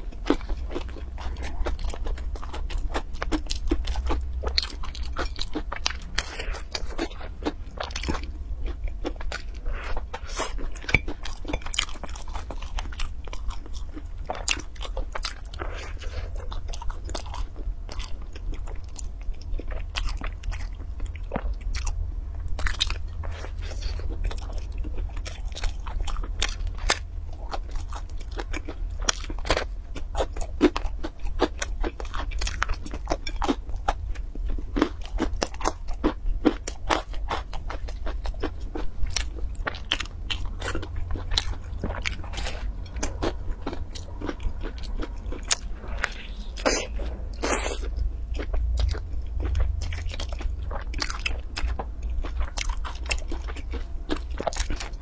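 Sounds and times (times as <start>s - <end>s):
crunching bites and chewing: 0.0s - 55.0s
steady low hum: 0.0s - 55.0s.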